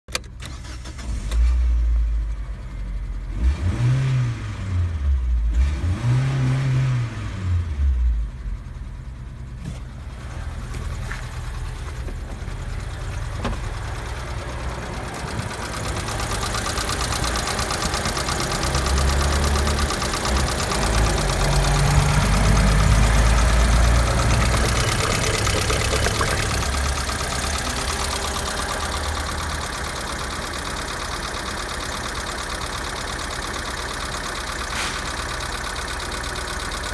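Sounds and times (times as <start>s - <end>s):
car engine revving and idling: 0.6s - 36.9s.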